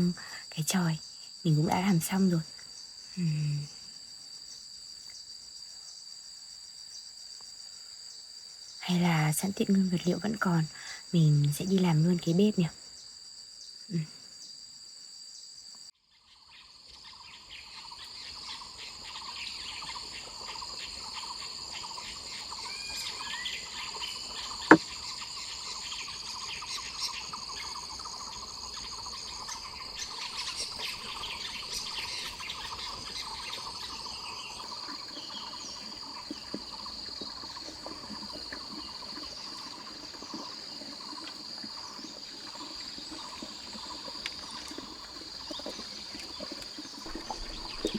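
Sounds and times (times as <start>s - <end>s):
crickets and insects chirring: 0.0s - 47.9s.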